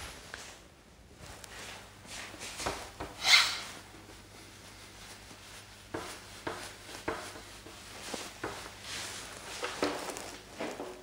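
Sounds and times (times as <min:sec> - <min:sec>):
cloth wiping whiteboard: 0:01.6 - 0:11.0.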